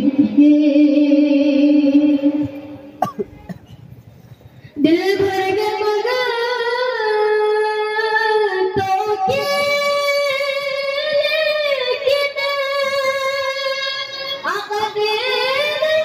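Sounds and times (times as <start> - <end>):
person singing over loudspeakers: 0.0 - 3.0, 4.8 - 16.0.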